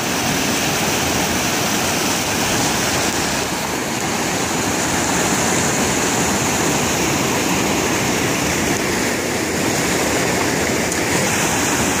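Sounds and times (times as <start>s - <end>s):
rapids pouring over rocks: 0.0s - 12.0s.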